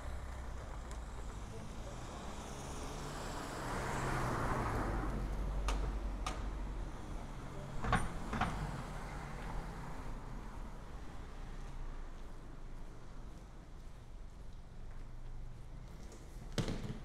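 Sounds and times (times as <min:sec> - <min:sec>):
car passing slowly: 0:00.0 - 0:16.0.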